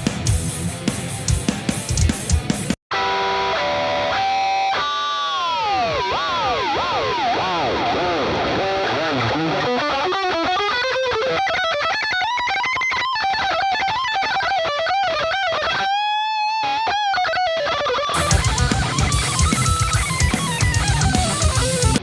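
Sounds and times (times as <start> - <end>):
distorted electric guitar lead: 0.0 - 14.2, 18.2 - 22.0.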